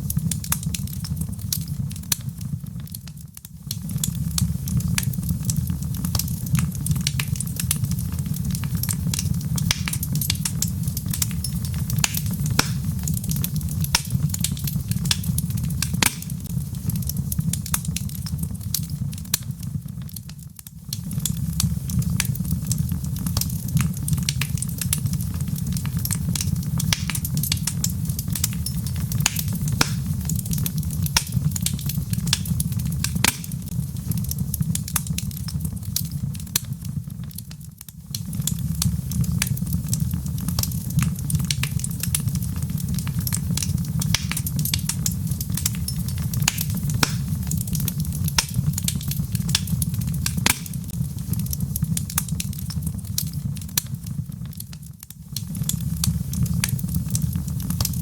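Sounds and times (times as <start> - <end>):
log fire crackling and popping: 0.0 - 58.0
low fire rumble: 0.0 - 58.0.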